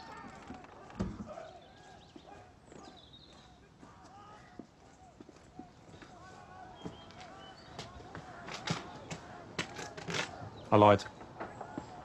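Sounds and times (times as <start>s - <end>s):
footsteps on stone: 0.0s - 10.3s
faint birdsong: 0.0s - 12.0s.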